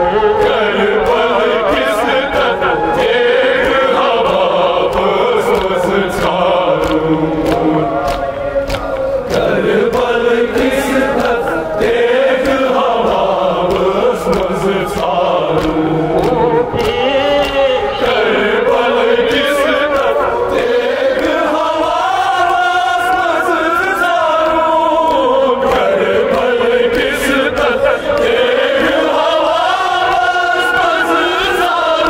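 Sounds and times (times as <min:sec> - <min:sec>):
voices chanting a lament: 0:00.0 - 0:32.0.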